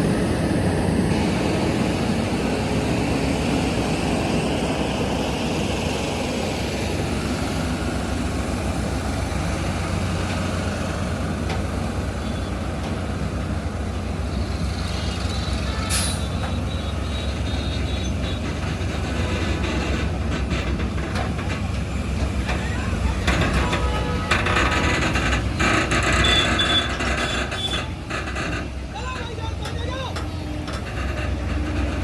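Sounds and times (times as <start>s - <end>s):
diesel truck engines humming: 0.0s - 32.0s.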